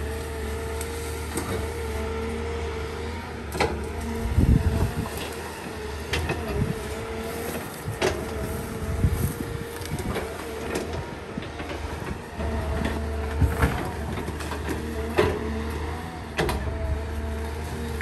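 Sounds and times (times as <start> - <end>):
excavator engine drone: 0.0 - 18.0.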